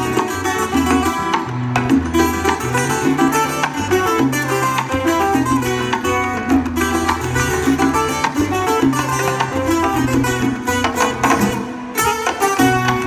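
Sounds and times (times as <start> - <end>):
acoustic guitar: 0.0 - 13.0
plucked string ensemble: 0.0 - 13.0.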